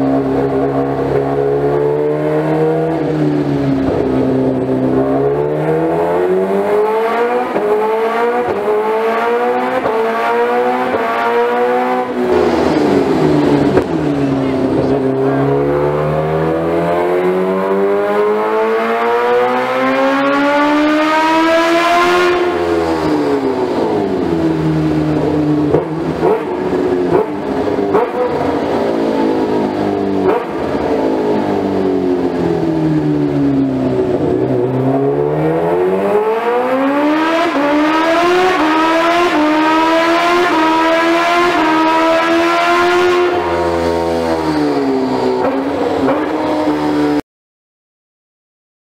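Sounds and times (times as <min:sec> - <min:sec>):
motorcycle engine revving: 0:00.0 - 0:47.2.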